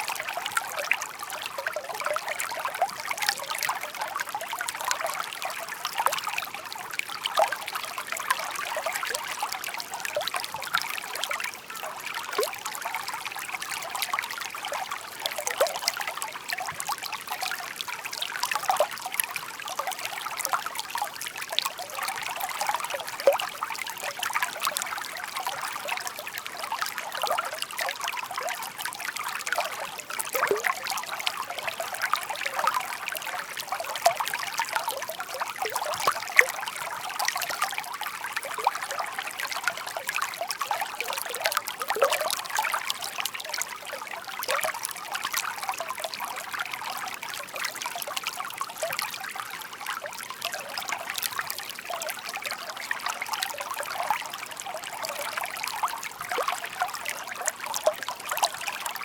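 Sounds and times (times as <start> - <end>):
stream trickling and babbling: 0.0 - 59.0.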